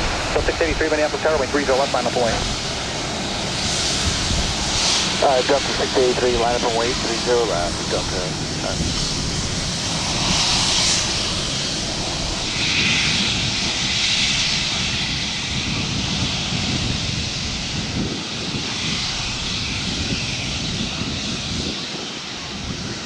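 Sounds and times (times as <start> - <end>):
jet engine rushing: 0.0 - 23.0.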